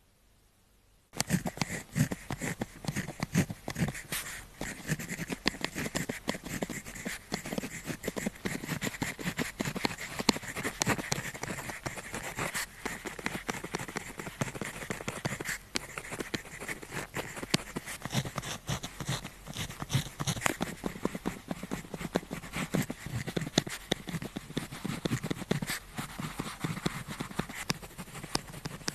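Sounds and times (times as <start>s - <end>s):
pen scratching on paper: 1.2s - 28.9s.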